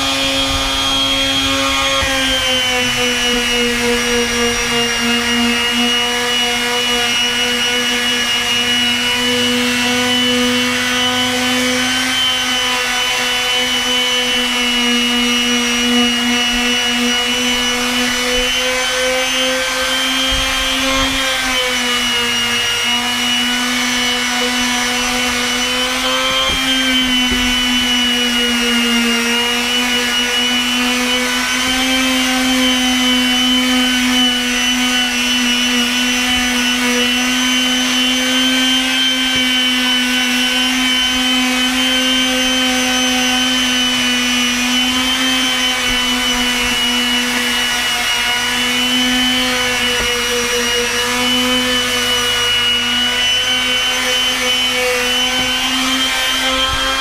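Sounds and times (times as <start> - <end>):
palm sander whining: 0.0 - 57.0.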